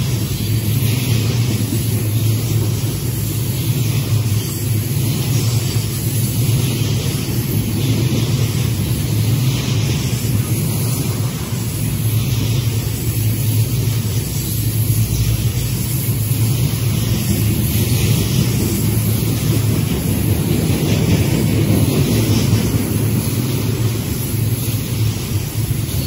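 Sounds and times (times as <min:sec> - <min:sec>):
steel wheels rumbling on rails: 0:00.0 - 0:26.0.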